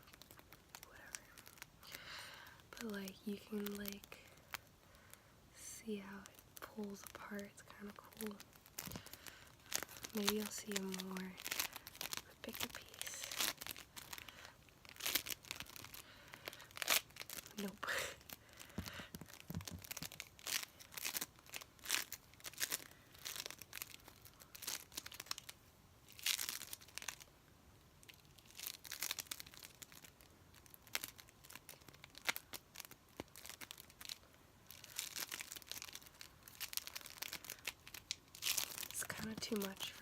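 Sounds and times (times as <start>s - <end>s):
sticky beads crackling and tearing: 0.0s - 40.0s.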